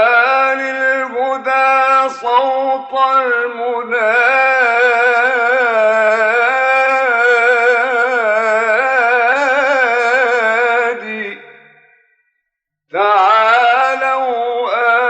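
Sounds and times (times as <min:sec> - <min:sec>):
man singing devotional hymn: 0:00.0 - 0:11.9, 0:12.9 - 0:15.0.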